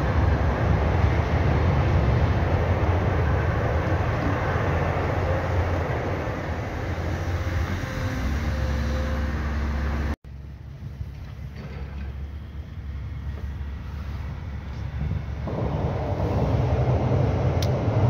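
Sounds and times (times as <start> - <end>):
freight train rumbling over bridge: 0.0 - 18.0.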